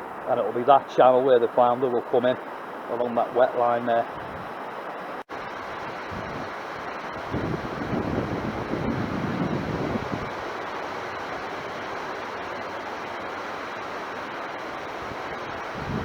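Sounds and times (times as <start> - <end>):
steady hiss: 0.0 - 16.0
wind buffeting microphone: 0.0 - 16.0.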